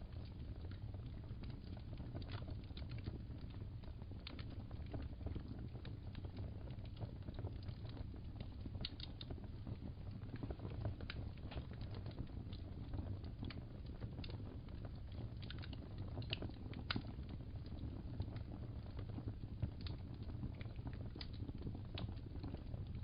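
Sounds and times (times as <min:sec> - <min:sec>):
low steady rumble: 0:00.0 - 0:23.0
wood fire crackling: 0:00.0 - 0:23.0.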